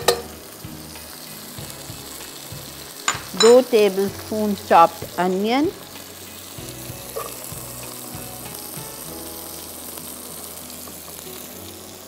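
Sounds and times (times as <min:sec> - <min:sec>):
garlic and onion sizzling in oil: 0:00.0 - 0:12.0.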